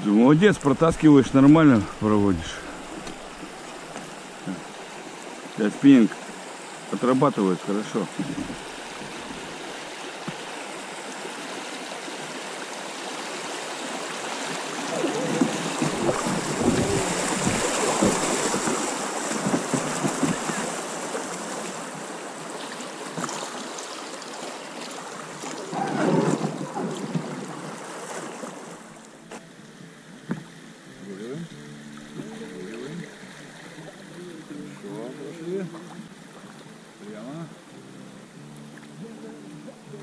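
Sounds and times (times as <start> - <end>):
short water splashes: 0.0 - 7.1, 7.7 - 29.1, 31.2 - 36.8
river current rushing: 0.0 - 40.0.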